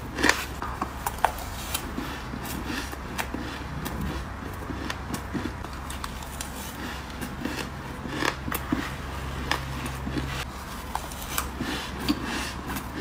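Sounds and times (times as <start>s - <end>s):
frost crunching being chewed: 0.0s - 13.0s
steady low hum: 0.0s - 13.0s.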